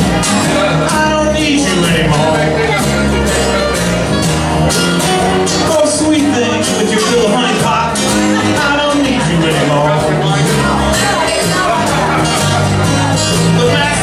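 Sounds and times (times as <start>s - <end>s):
live blues band playing: 0.0s - 14.0s.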